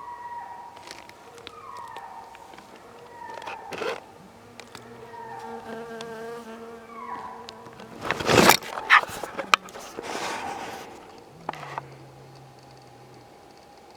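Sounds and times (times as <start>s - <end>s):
flying insect buzzing: 0.8s - 13.0s.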